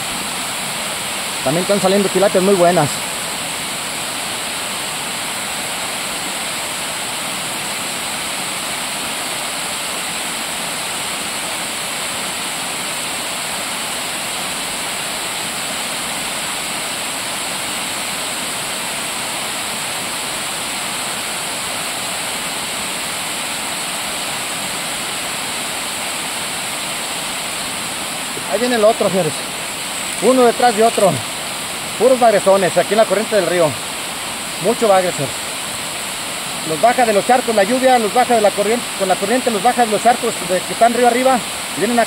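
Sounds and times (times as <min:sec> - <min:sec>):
water rushing over cascade: 0:00.0 - 0:42.0.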